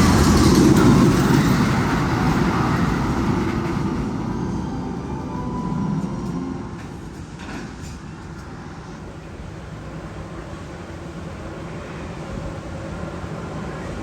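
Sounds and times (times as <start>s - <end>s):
roller coaster rumbling on track: 0.0s - 14.0s.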